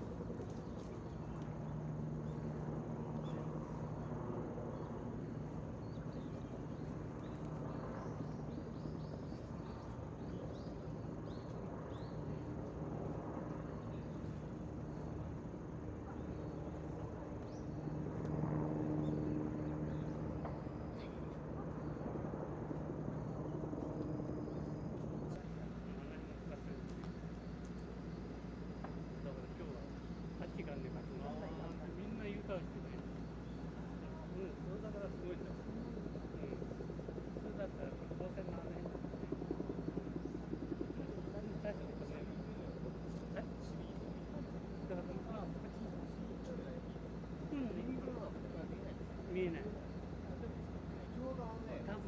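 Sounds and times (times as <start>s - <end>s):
distant engine drone: 0.0s - 52.0s.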